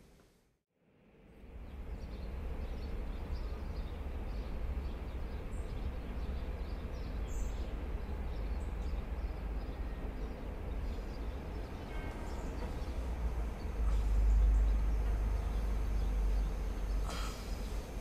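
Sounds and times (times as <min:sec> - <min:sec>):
distant traffic rumble: 0:01.5 - 0:18.0
small birds chirping: 0:01.7 - 0:18.0.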